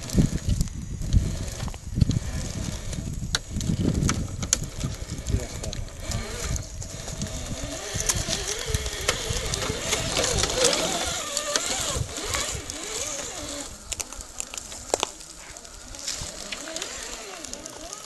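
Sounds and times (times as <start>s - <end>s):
dry brush rustling and crunching: 0.0s - 18.0s
electric motor whining: 0.0s - 18.0s
twigs snapping: 0.0s - 18.0s.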